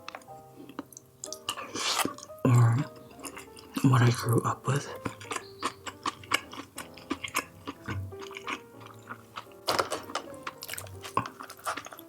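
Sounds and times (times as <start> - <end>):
person chewing food: 0.0 - 4.3, 4.9 - 12.0
soft background music: 0.0 - 12.0.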